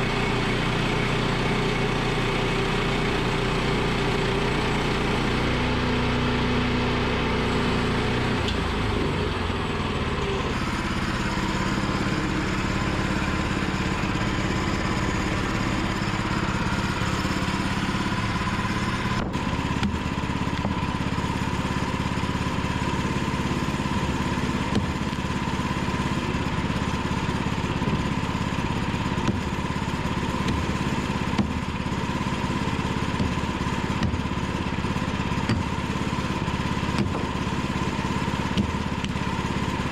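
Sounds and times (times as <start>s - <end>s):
bandsaw sawmill engine running: 0.0s - 39.9s.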